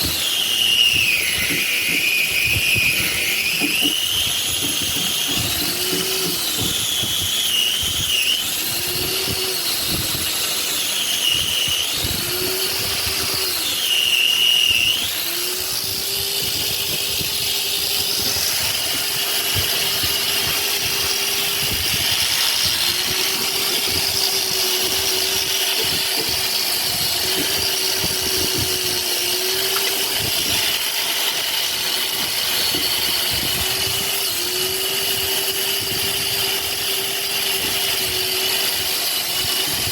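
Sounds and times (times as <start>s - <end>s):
electric power tool motor running: 0.0s - 39.9s.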